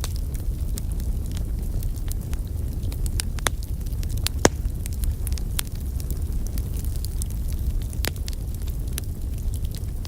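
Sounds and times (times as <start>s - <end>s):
logs crackling and popping: 0.0s - 10.0s
wood fire burning: 0.0s - 10.0s.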